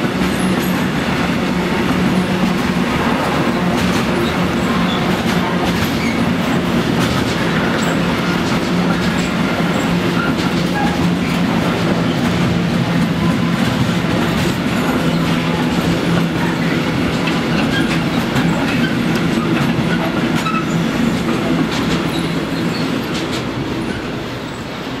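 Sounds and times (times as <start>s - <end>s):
freight train wheels rumbling on rail: 0.0s - 25.0s
wheels clattering over rail joints: 0.1s - 24.6s.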